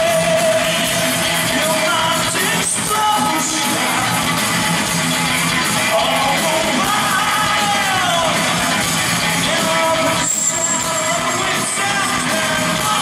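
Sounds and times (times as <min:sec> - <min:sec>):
singer's voice: 0:00.0 - 0:04.6, 0:05.6 - 0:13.0
distorted electric guitars: 0:00.0 - 0:13.0
drums: 0:00.0 - 0:13.0.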